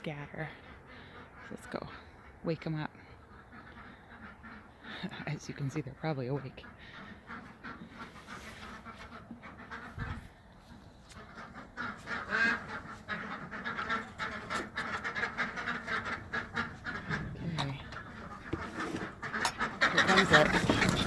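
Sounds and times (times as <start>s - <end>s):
ducks quacking: 0.0s - 21.0s.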